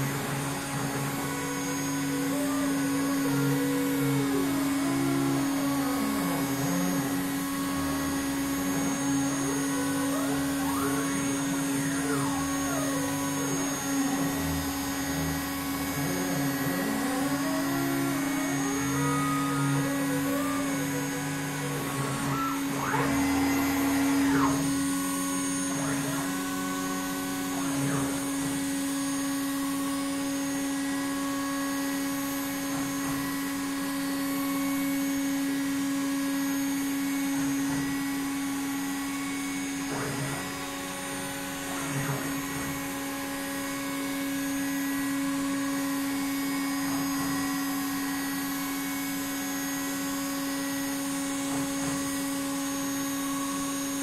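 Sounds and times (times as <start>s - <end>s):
spindle humming: 0.0s - 35.8s, 36.4s - 54.0s
motors whining: 0.0s - 54.0s.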